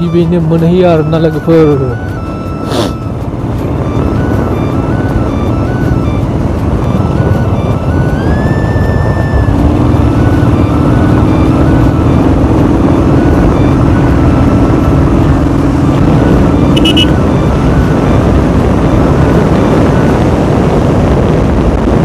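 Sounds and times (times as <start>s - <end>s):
motorcycle engine running: 0.0s - 22.0s
wind noise on microphone: 0.0s - 22.0s.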